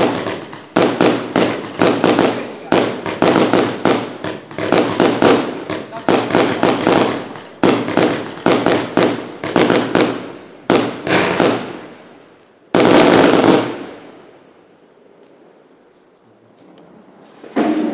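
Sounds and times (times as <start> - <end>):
fireworks bursts with crackles: 0.0 - 14.6.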